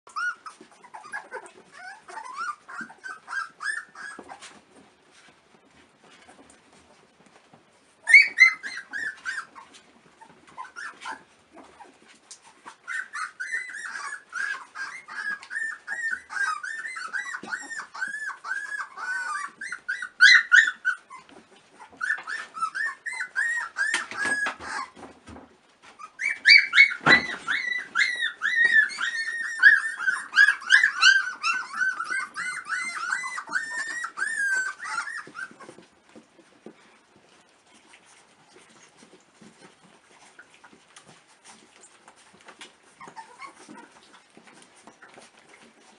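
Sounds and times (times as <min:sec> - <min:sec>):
puppies squeaking and whimpering: 0:00.1 - 0:45.9.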